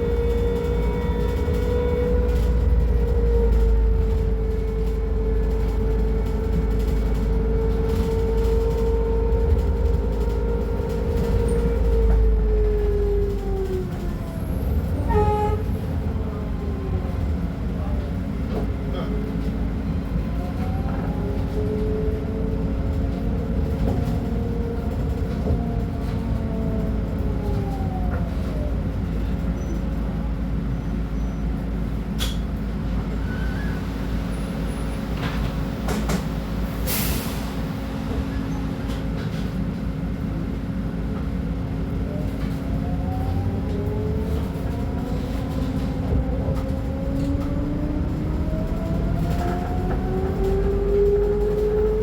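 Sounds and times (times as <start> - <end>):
bus diesel engine running: 0.0 - 52.0.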